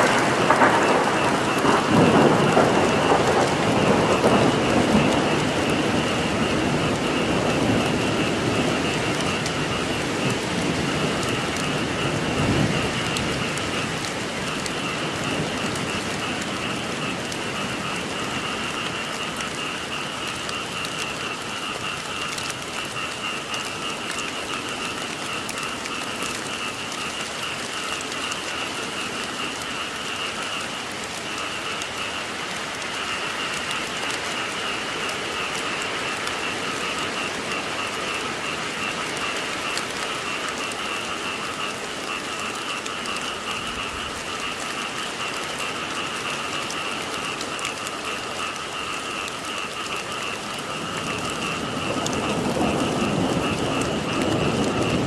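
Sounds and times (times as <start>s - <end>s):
frogs calling: 0.0s - 55.0s
rain pattering on surfaces: 0.0s - 55.0s.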